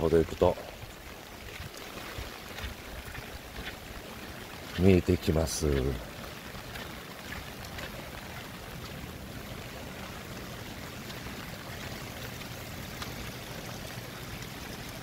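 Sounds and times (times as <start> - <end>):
rain falling on road: 0.0 - 15.0.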